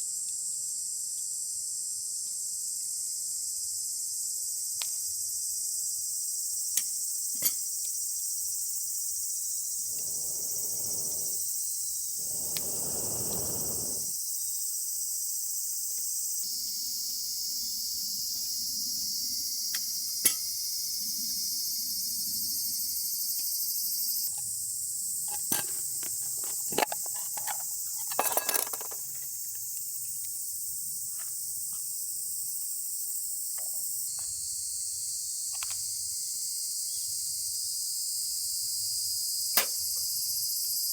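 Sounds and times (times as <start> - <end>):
crickets chirping: 0.8 - 40.9.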